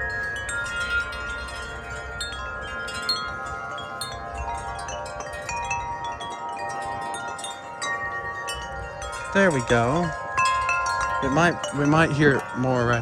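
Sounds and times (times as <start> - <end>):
wind chimes ringing: 0.0 - 13.0.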